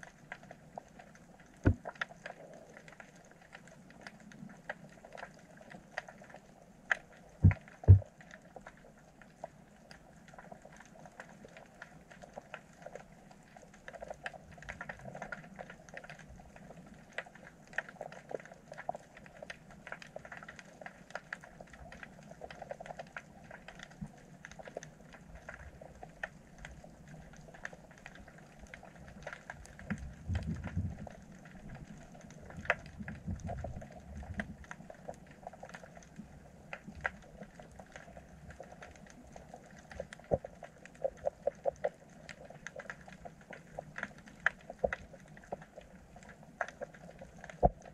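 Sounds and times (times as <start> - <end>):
faint underwater crackling: 0.0 - 47.9.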